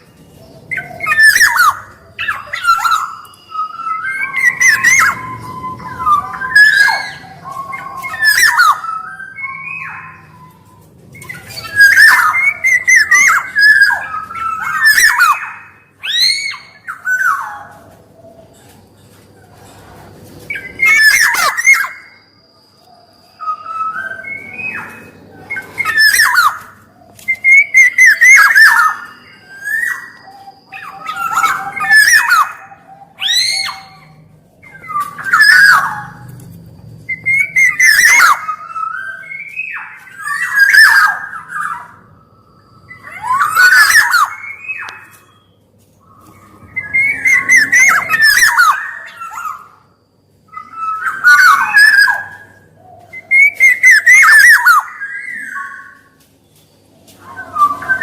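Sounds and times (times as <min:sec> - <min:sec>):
oriole singing fluty whistles: 0:00.6 - 0:17.7, 0:20.5 - 0:36.2, 0:37.1 - 0:56.2, 0:57.2 - 0:58.0.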